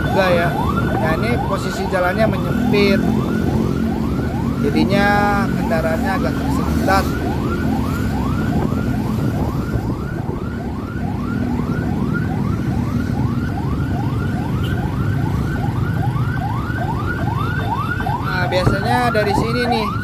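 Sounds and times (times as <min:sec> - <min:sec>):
electronic siren yelping: 0:00.0 - 0:20.0
traffic rumble: 0:00.0 - 0:20.0.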